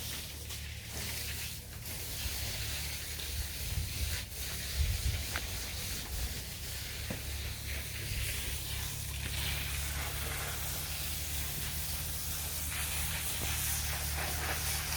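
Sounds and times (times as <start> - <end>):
water spraying from hose: 0.0 - 14.9.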